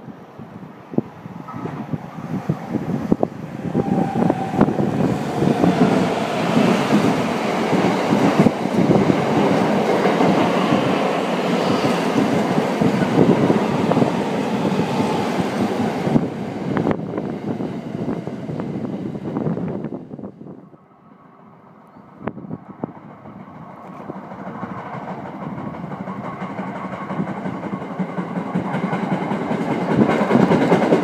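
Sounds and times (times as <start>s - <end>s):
train wheels rumbling on rail: 0.0s - 20.6s, 22.0s - 31.0s.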